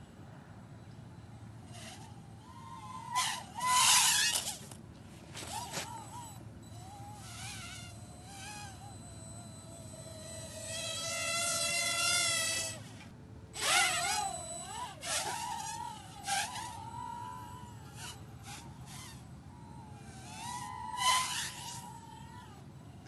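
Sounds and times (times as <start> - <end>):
quadcopter propellers whining: 1.6 - 13.0, 13.6 - 23.0.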